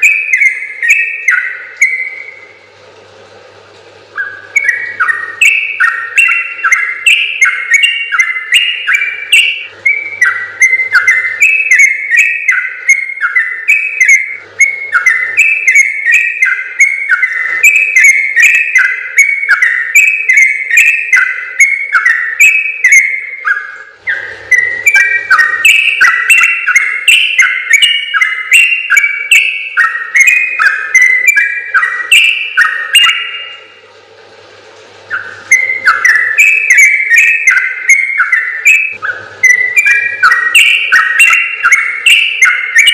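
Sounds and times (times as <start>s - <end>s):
bird chattering song: 0.0s - 2.5s, 4.1s - 33.8s, 35.1s - 42.9s.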